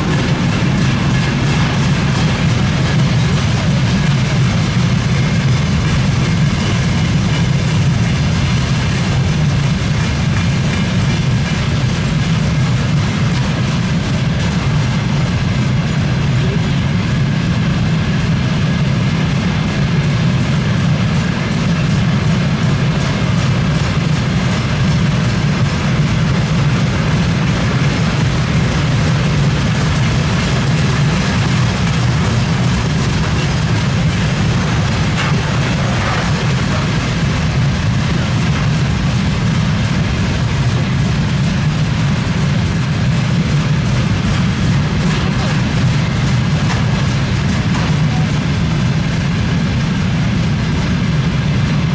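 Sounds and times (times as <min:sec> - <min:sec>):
freight train rumbling: 0:00.0 - 0:51.9
wheels clacking over rail joints: 0:00.0 - 0:51.9.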